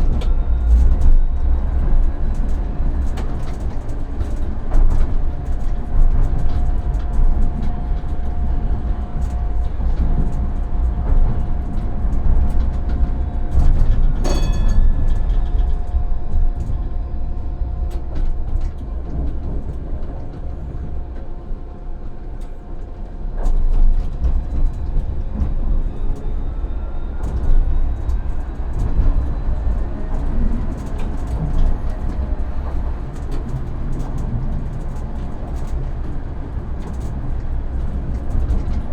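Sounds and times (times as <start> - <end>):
tram motor whine: 0.0 - 38.9
tram rumble: 0.0 - 38.9.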